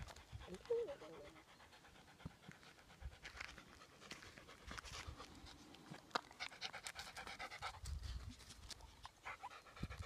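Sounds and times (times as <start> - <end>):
large dog panting: 0.0 - 10.0.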